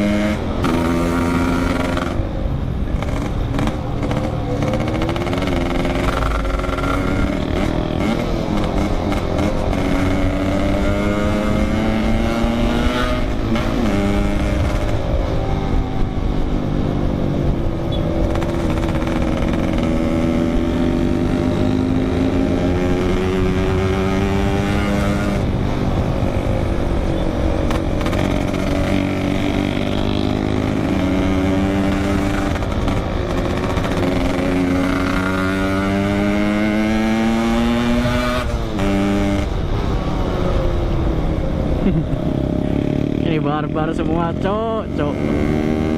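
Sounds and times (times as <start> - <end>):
two-stroke motorcycle revving: 0.0 - 45.9.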